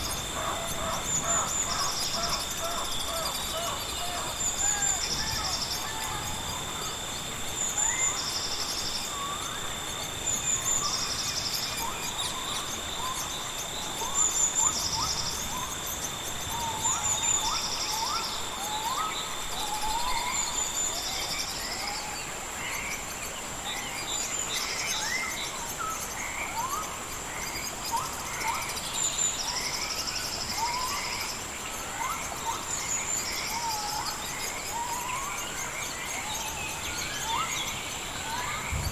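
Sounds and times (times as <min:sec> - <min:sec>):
high insect drone: 0:00.0 - 0:38.9
pulsing insect chirp: 0:00.0 - 0:38.9.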